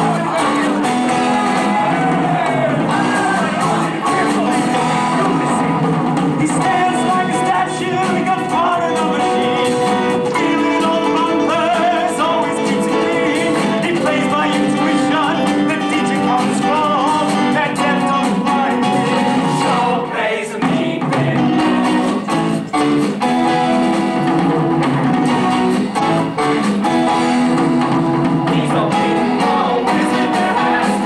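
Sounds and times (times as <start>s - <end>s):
people singing: 0.0s - 22.5s, 28.4s - 31.0s
rock band playing loudly: 0.0s - 31.0s.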